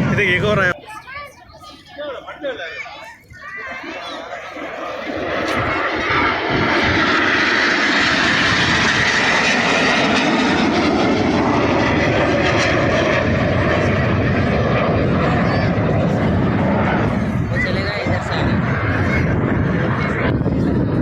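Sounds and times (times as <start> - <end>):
aircraft engine flying overhead: 0.0 - 21.0.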